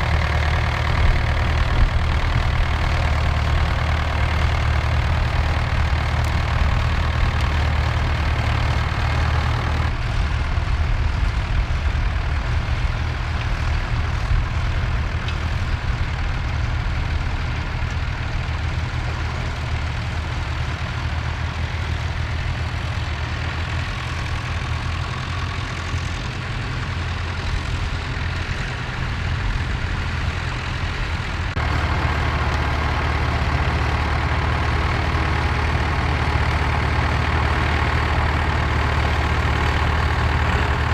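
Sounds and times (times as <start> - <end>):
tractor engines running: 0.0 - 40.9.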